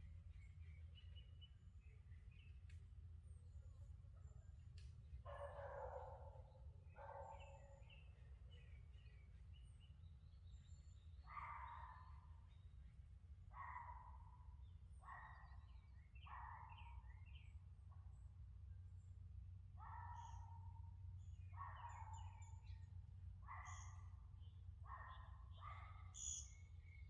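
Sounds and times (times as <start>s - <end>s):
small birds chirping: 0.0s - 13.0s, 13.6s - 17.6s, 19.8s - 27.0s.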